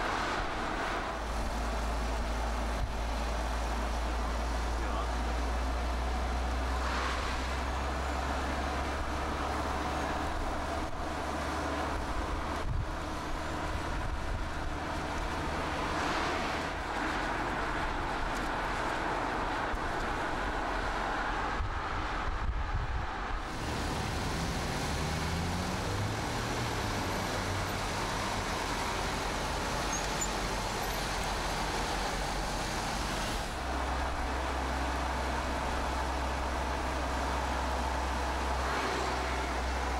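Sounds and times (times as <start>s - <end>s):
car tyre and engine noise: 0.0s - 39.9s.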